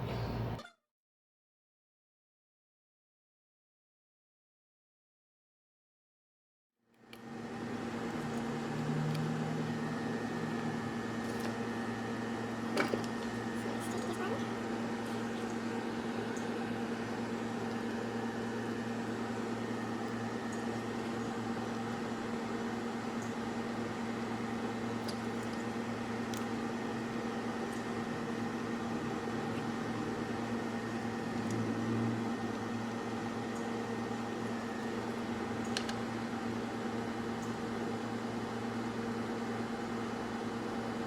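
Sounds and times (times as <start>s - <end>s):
electrical hum with fan hiss: 6.9s - 41.0s.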